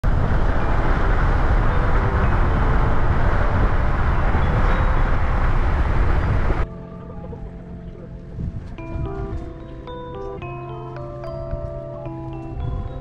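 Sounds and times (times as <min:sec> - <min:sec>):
car road and wind noise: 0:00.0 - 0:13.0.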